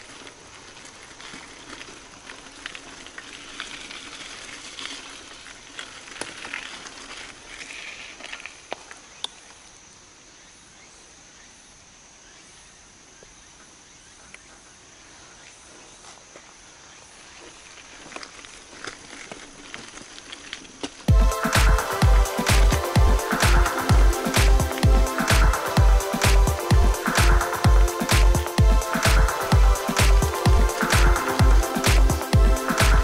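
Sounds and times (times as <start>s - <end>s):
tyres crunching on gravel: 0.0s - 9.6s, 14.4s - 33.0s.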